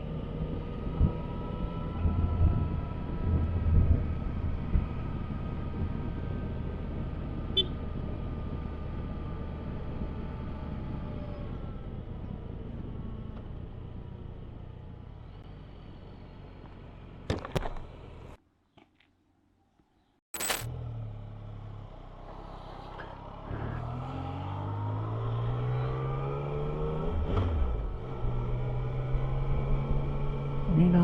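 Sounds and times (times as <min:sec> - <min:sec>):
road and wind rumble: 0:00.0 - 0:18.4, 0:20.4 - 0:31.0.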